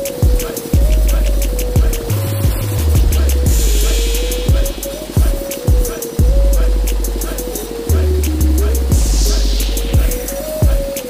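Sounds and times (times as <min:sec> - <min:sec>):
electronic hip-hop music: 0:00.0 - 0:11.0.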